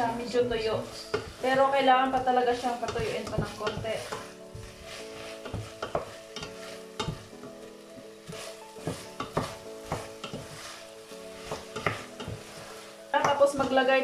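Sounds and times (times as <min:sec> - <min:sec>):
quiet sizzle: 0:00.0 - 0:14.0
wooden spoon scraping a pot: 0:00.0 - 0:14.0.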